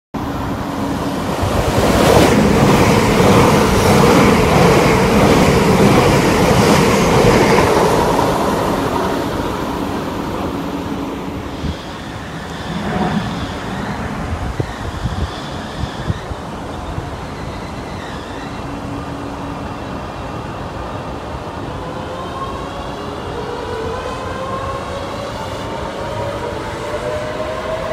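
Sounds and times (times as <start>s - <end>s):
train passing at speed: 0.2s - 27.9s.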